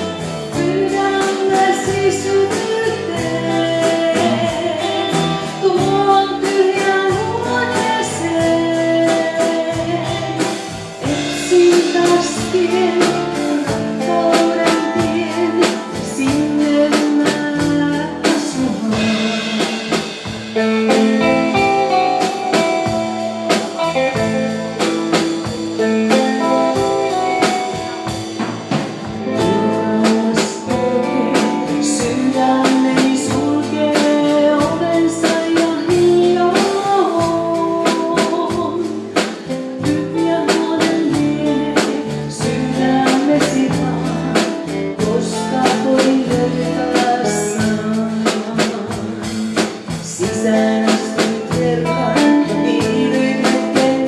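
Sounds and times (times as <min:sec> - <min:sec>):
bass guitar: 0:00.0 - 0:54.0
drum kit beat: 0:00.0 - 0:54.0
electric and acoustic guitars: 0:00.0 - 0:54.0.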